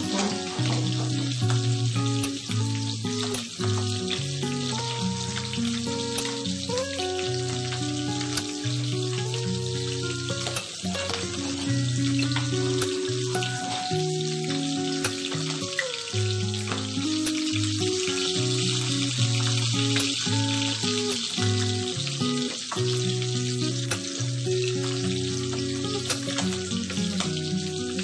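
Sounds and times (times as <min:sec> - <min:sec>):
fish sizzling in hot oil: 0:00.0 - 0:28.0.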